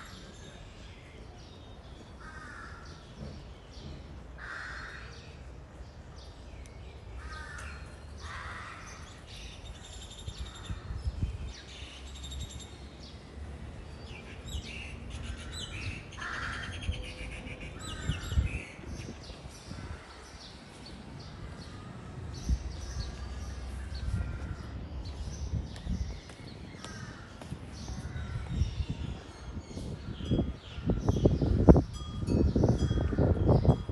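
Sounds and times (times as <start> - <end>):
birds calling and chirping: 0.0 - 33.9.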